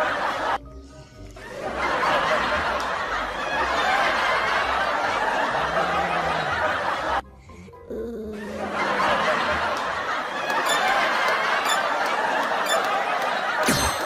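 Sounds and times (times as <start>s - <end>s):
people laughing: 0.0s - 0.6s, 1.4s - 7.2s, 8.3s - 14.0s.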